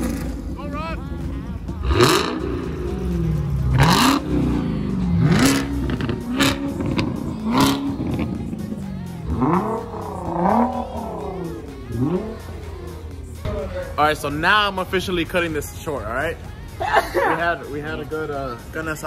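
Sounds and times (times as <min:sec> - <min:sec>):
car engines revving: 0:00.0 - 0:16.7.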